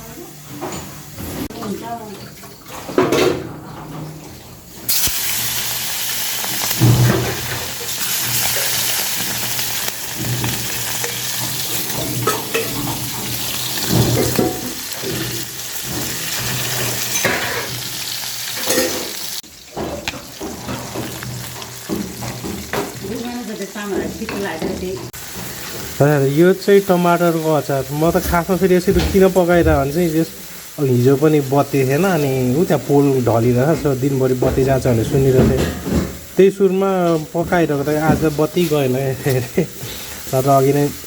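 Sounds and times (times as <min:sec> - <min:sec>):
stirring in a pan: 0:03.8 - 0:41.0
food sizzling in hot oil: 0:04.6 - 0:41.0.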